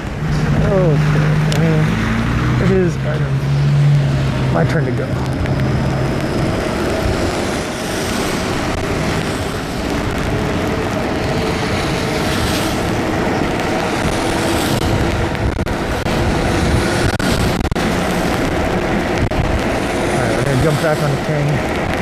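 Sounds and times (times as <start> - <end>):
wind rushing: 0.0 - 22.0
wet road hiss: 3.2 - 22.0.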